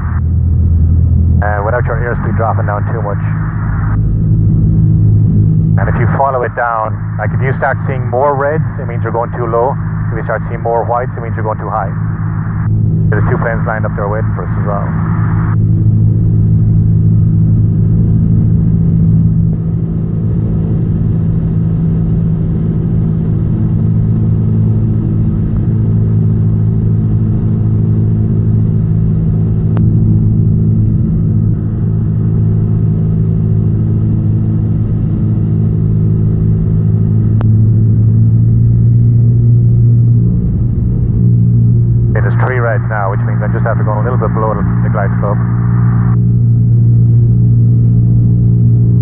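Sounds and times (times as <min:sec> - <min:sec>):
aircraft engine and propeller droning: 0:00.0 - 0:49.0.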